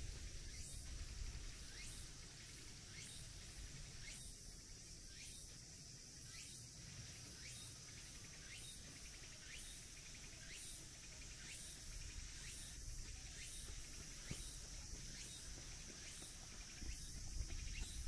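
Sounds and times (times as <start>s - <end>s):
insect high drone: 0.0s - 18.0s
rising insect chirp: 0.0s - 18.0s.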